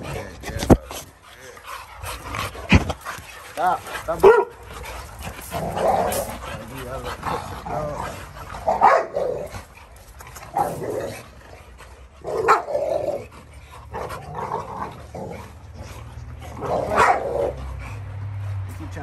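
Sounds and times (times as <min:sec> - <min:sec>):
dogs growling: 0:00.0 - 0:19.0
dogs barking: 0:01.9 - 0:19.0.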